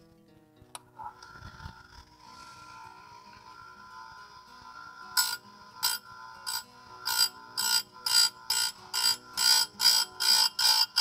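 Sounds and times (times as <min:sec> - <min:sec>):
grinder motor whine: 0:01.1 - 0:11.0
grinding wheel on chain tooth: 0:01.3 - 0:11.0.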